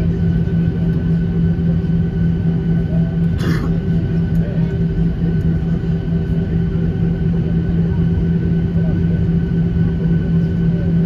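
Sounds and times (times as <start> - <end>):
deep rumble: 0.0 - 11.0
jet engines droning: 0.0 - 11.0.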